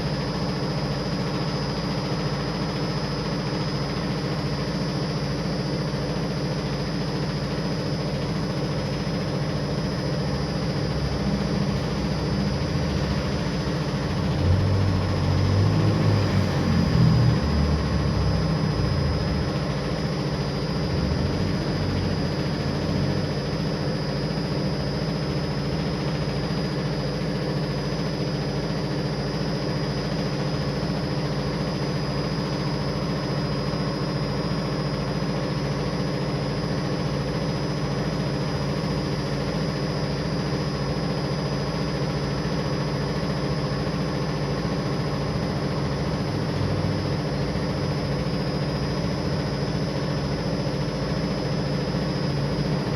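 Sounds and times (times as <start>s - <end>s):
machine low drone: 0.0s - 52.9s.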